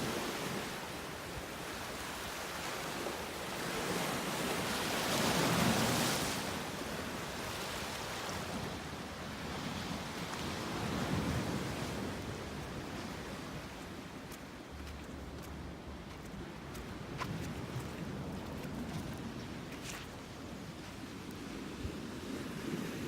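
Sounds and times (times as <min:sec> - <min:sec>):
waves breaking: 0:00.0 - 0:23.0
waves washing on a beach: 0:00.0 - 0:23.0.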